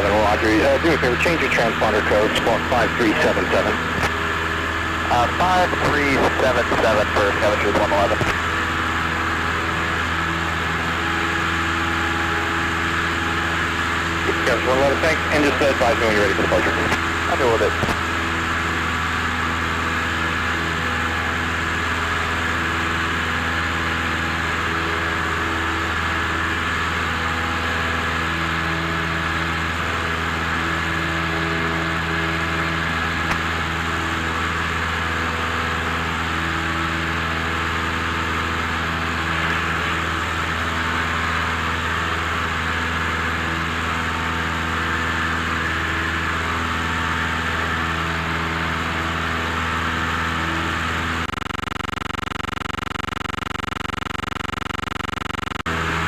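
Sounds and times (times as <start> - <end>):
aircraft engine and propeller drone: 0.0 - 56.0.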